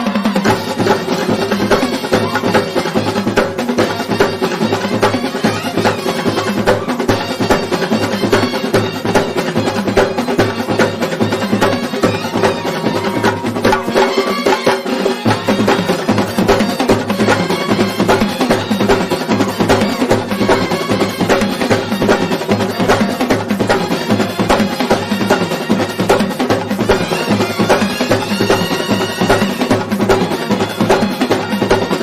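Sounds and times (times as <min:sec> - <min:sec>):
fast dense drumming: 0:00.0 - 0:32.0
festival band playing: 0:00.0 - 0:32.0.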